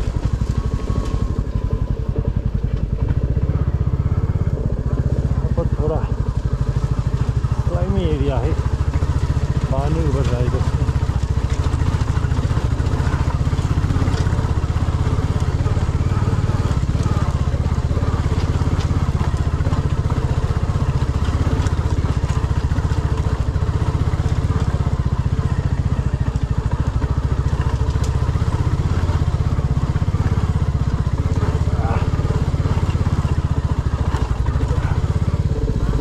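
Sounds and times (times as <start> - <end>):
motorcycle engine running steadily: 0.0 - 36.0.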